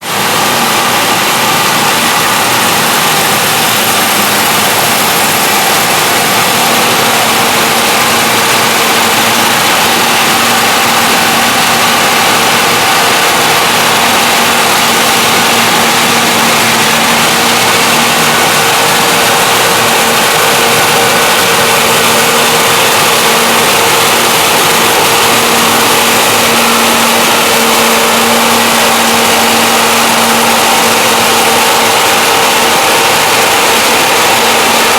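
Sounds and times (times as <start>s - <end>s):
combine harvester drone: 0.0s - 34.9s.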